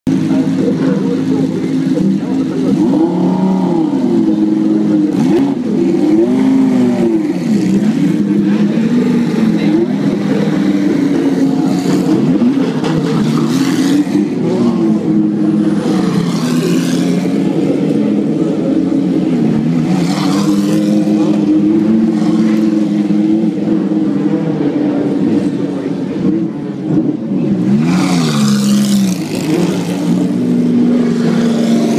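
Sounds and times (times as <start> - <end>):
race cars passing at speed: 0.1 - 31.9.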